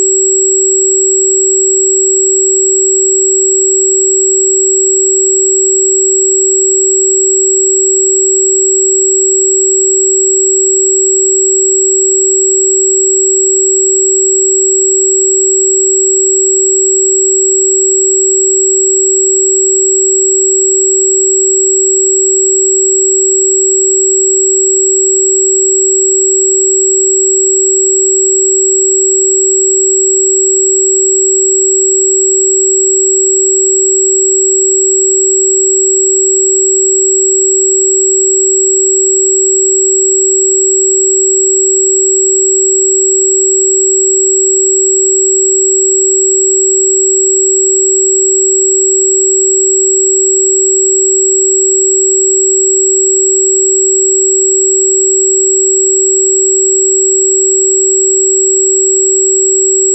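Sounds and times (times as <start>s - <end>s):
pure sine tone: 0.0s - 59.9s.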